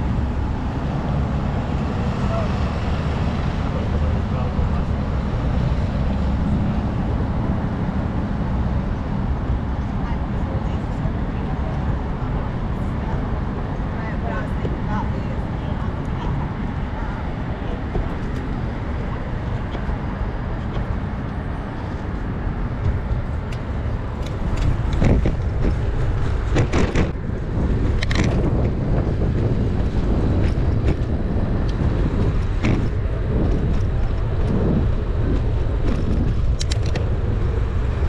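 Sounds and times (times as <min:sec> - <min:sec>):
city street traffic: 0:00.0 - 0:38.0
wind rumble on microphone: 0:00.0 - 0:38.0.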